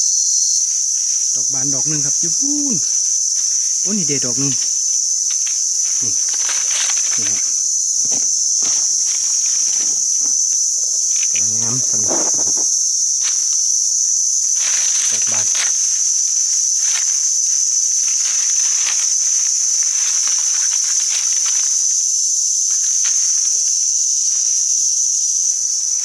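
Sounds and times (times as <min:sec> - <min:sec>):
shrill insect chorus: 0:00.0 - 0:26.0
rustles and crackles: 0:00.4 - 0:24.7.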